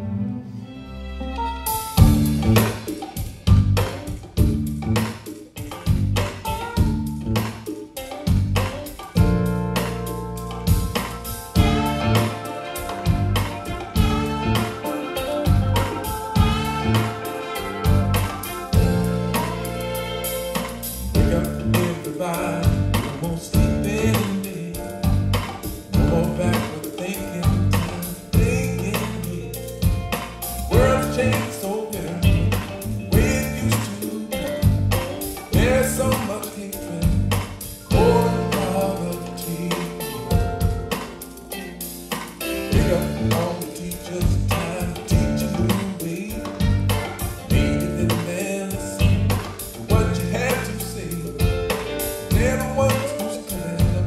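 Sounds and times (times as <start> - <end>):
deep bass beat: 1.7 - 5.1, 5.8 - 7.5, 8.3 - 14.8, 15.5 - 41.0, 42.7 - 54.0
recorded song over loudspeakers: 8.7 - 54.0.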